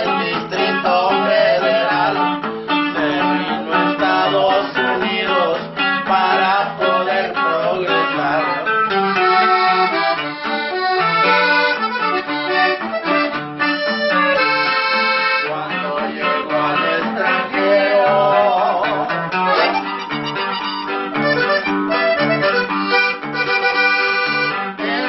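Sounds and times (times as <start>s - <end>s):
button accordion melody: 0.0s - 25.0s
strummed guitar: 0.0s - 25.0s.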